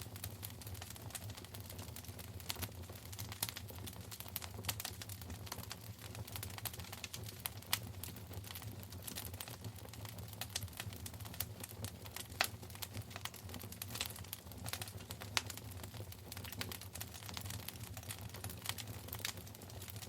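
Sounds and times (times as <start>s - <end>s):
low rumble of burning: 0.0s - 20.0s
wood fire crackling and popping: 0.0s - 20.0s.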